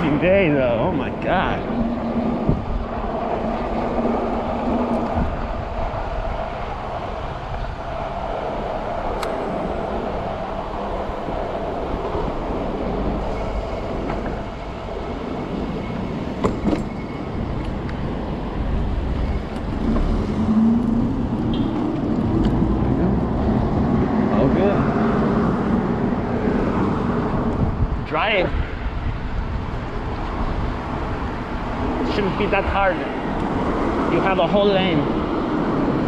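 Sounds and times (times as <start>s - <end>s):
road and traffic rumble: 0.0s - 36.0s
wind on microphone: 0.0s - 36.0s.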